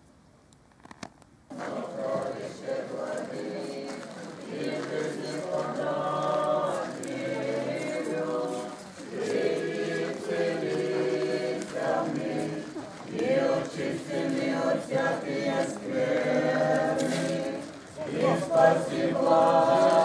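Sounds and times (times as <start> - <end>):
choir singing a hymn: 1.5 - 20.0.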